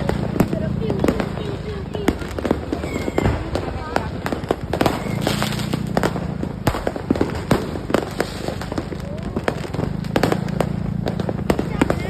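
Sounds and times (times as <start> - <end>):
fireworks and firecrackers cracking: 0.0 - 12.0.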